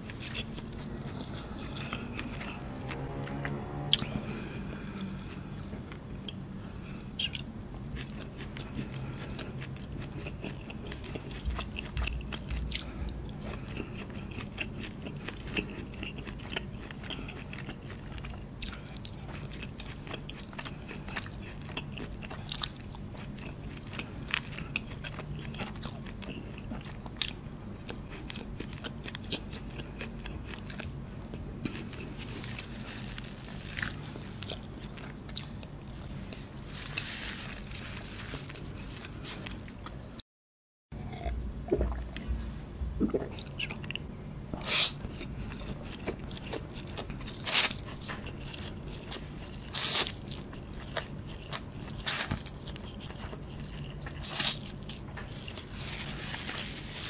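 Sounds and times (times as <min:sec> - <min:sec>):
person chewing noodles: 0:00.0 - 0:40.1, 0:41.0 - 0:57.0
low steady hum: 0:00.0 - 0:40.2, 0:40.9 - 0:57.0.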